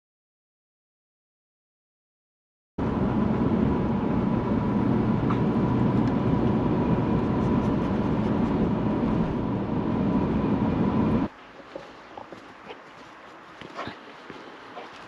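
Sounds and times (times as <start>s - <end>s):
vehicle rumble: 2.8s - 15.0s.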